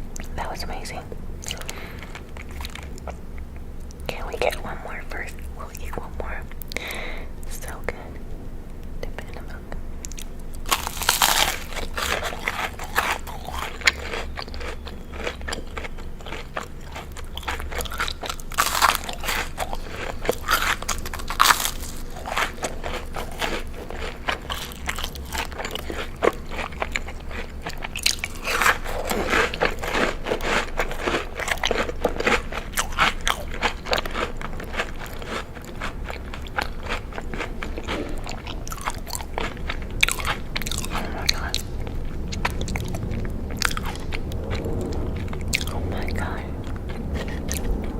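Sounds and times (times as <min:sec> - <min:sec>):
crunchy food being chewed: 0:00.0 - 0:08.2, 0:08.8 - 0:47.9.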